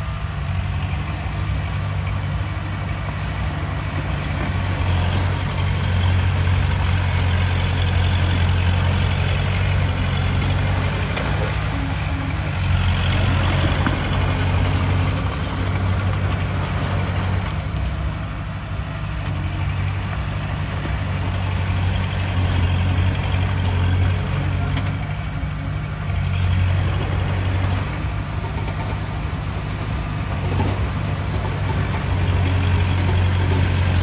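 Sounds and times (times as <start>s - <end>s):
diesel machinery engine drone: 0.0s - 34.0s.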